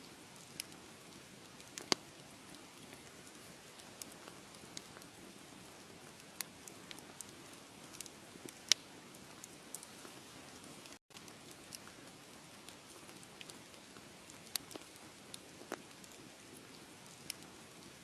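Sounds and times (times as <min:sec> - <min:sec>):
soft steady hiss: 0:00.0 - 0:18.0
wood fire crackling: 0:00.0 - 0:18.0.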